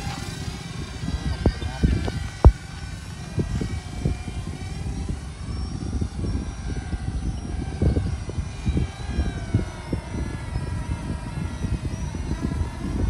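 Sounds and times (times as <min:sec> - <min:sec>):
small electric motors whining: 0:00.0 - 0:13.0
wind rumble on microphone: 0:00.0 - 0:13.0.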